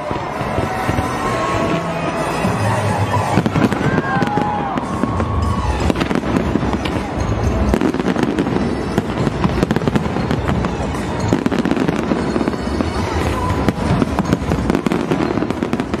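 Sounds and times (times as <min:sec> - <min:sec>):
deep fireworks booms: 0:00.0 - 0:16.0
fireworks crackling and popping: 0:00.0 - 0:16.0.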